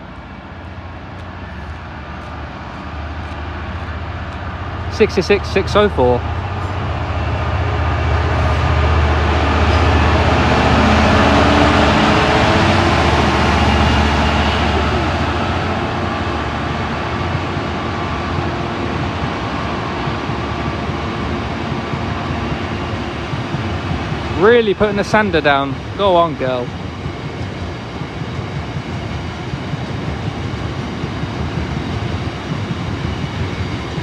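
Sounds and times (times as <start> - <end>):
diesel locomotive engine working hard: 0.0 - 34.0
rumble of rolling wagons: 0.0 - 34.0.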